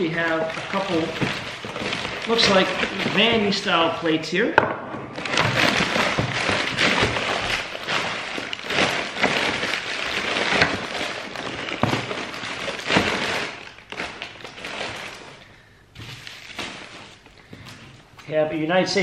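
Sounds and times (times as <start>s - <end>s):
crumpled newspaper rustling: 0.0s - 4.4s, 5.1s - 19.0s.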